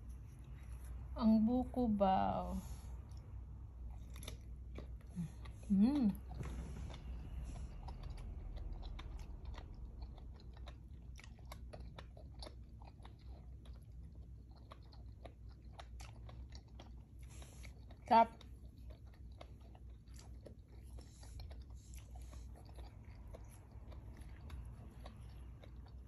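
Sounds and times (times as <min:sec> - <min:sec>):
wet chewing mouth clicks: 0:03.0 - 0:26.0.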